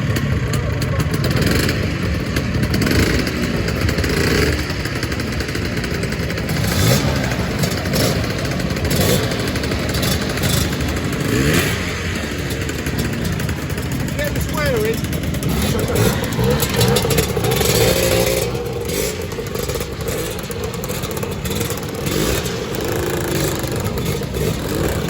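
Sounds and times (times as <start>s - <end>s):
scooter engines revving: 0.0s - 25.0s.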